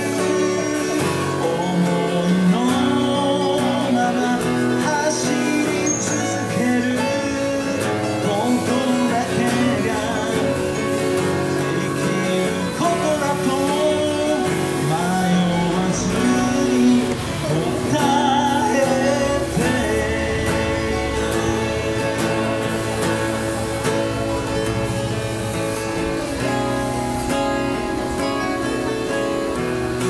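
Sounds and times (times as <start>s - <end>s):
acoustic guitar strumming: 0.0s - 30.0s
person singing: 0.0s - 30.0s.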